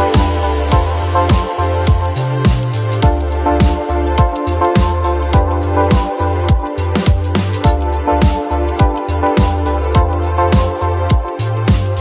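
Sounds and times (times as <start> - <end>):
kick drum: 0.0 - 11.9
sustained bass: 0.0 - 12.0
synth chords: 0.0 - 12.0.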